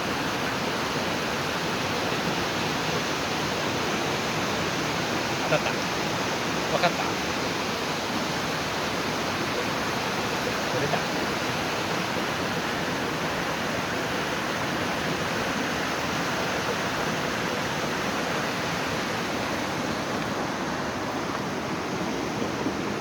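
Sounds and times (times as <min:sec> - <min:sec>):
stream rushing over rocks: 0:00.0 - 0:23.0.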